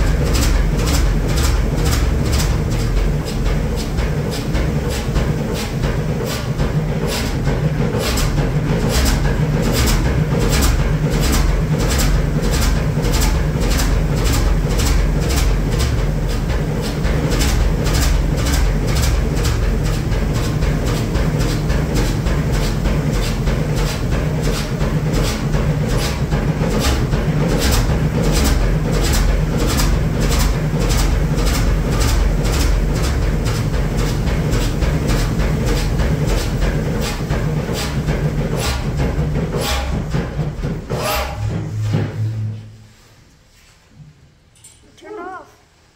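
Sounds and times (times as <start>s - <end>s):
diesel engine clattering: 0.0s - 42.6s.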